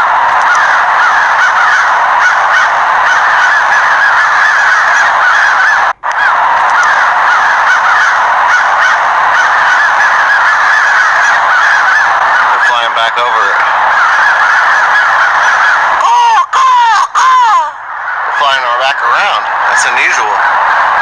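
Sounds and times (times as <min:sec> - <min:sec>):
flock of crows cawing: 0:00.0 - 0:21.0.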